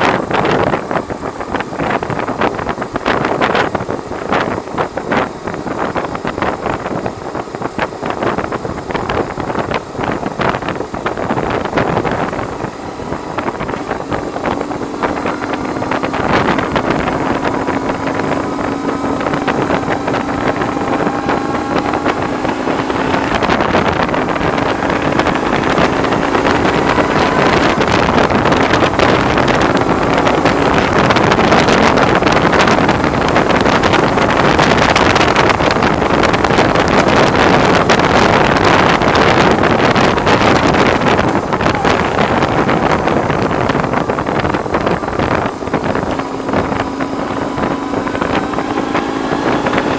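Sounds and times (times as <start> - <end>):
motorcycle engine pulling: 0.0 - 49.9
wind noise on microphone: 0.0 - 49.9.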